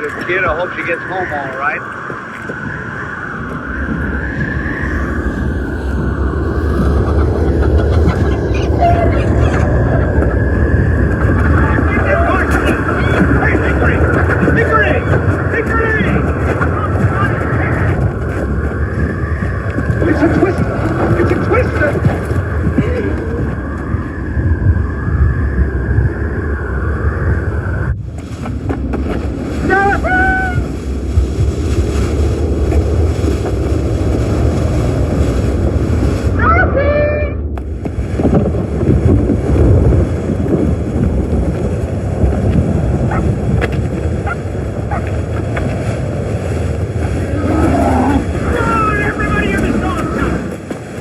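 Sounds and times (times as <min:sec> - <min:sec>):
deep rumble: 0:00.0 - 0:51.0
high whistling wind: 0:00.0 - 0:51.0
loud rushing wind: 0:00.0 - 0:51.0.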